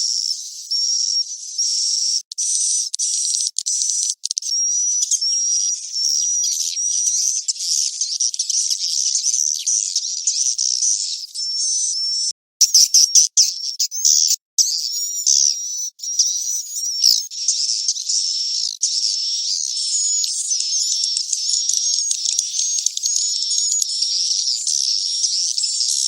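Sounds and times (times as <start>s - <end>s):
swiftlets twittering and chirping: 0.0s - 26.0s.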